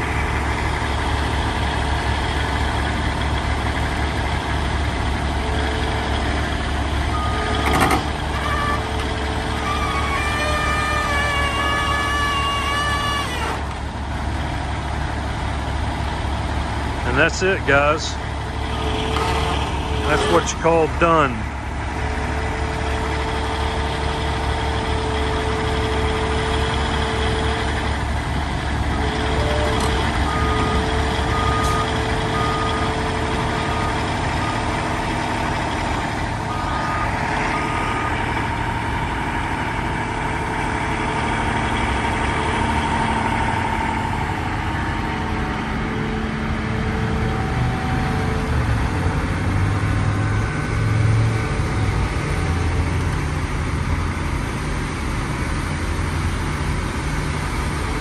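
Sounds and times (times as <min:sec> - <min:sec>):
diesel engine low pulsing rumble: 0:00.0 - 0:58.0.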